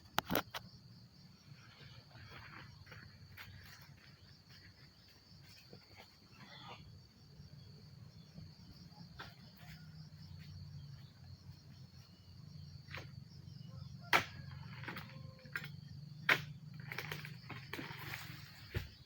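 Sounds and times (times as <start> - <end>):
insects chirping in a pulsing trill: 0.0 - 19.0.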